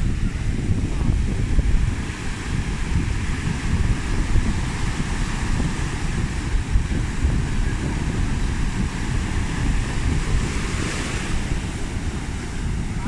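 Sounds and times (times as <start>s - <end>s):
sea surf hissing: 0.0s - 13.0s
wind buffeting microphone: 0.0s - 13.0s.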